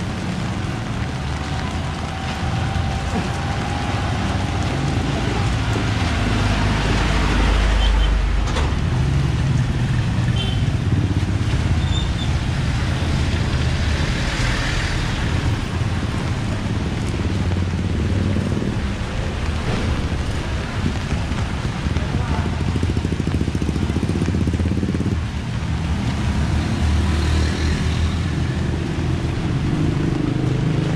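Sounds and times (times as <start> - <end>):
vehicle engine rumbling: 0.0 - 26.9.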